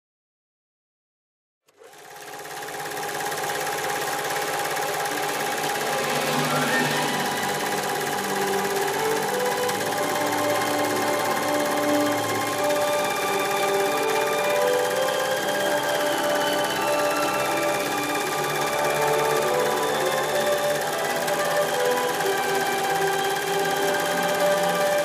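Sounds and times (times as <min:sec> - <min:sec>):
film projector clatter: 0:01.7 - 0:25.0.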